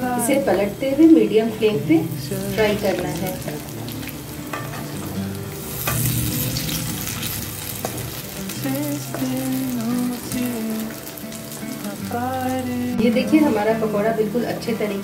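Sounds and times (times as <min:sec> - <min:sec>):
food deep-frying in hot oil: 0:00.2 - 0:12.8.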